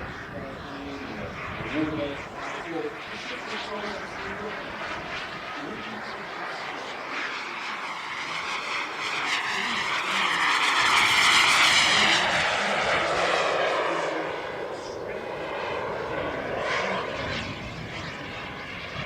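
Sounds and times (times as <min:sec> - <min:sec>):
model jet turbine flying past: 0:00.0 - 0:19.0.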